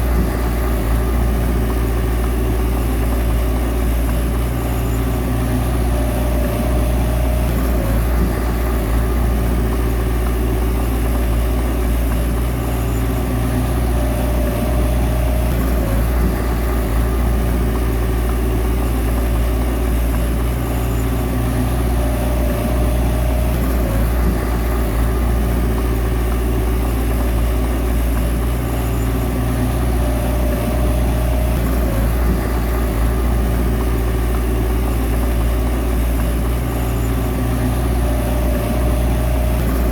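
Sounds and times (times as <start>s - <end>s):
bulldozer diesel engine humming: 0.0s - 39.9s.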